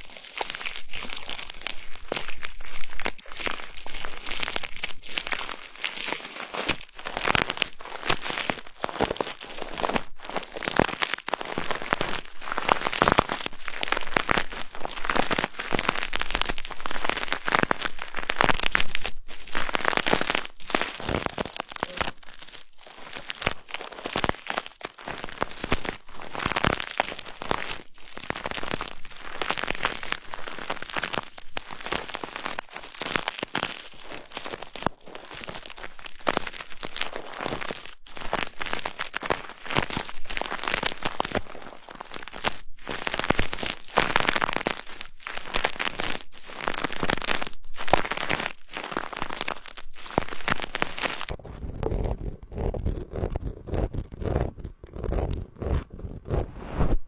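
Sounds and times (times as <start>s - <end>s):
crinkly brushing and rubbing: 0.0s - 57.0s.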